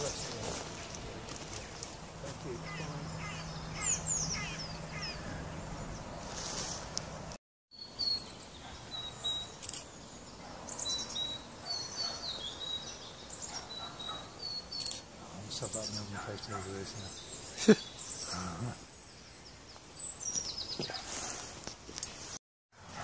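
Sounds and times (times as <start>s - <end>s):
small birds chirping: 0.0s - 22.4s
outdoor background hiss: 0.0s - 23.0s.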